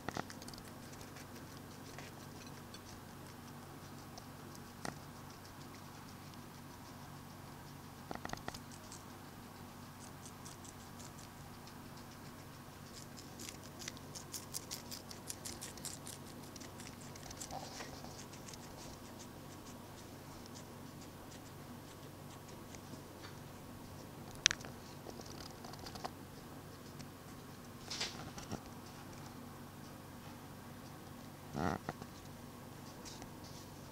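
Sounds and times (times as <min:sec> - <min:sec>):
guinea pig chewing lettuce: 0:00.0 - 0:33.9.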